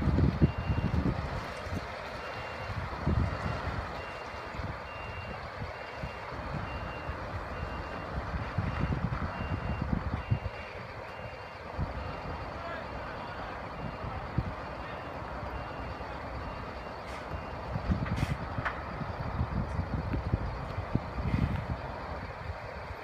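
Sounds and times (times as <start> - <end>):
diesel truck rumbling: 0.0 - 23.0.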